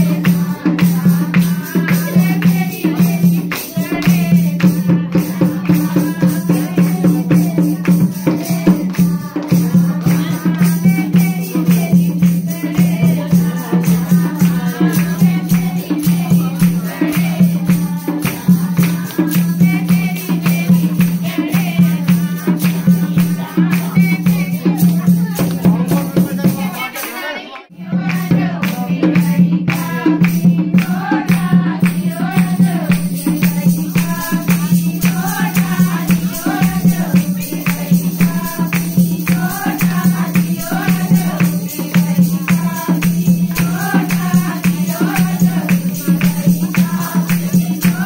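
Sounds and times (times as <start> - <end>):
quick dense percussion: 0.0 - 26.9, 27.8 - 48.0
person singing: 0.0 - 48.0.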